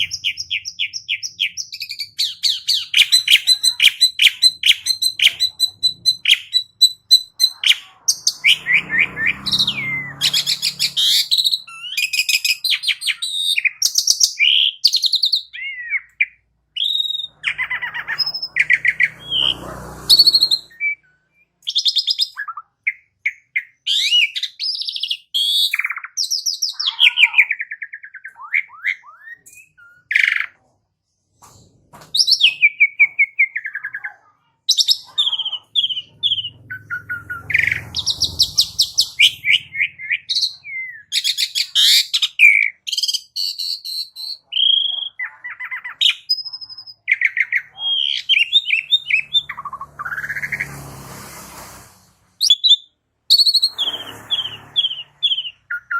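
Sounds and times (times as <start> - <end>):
starling singing: 0.0 - 30.6, 32.2 - 50.9, 52.4 - 55.9.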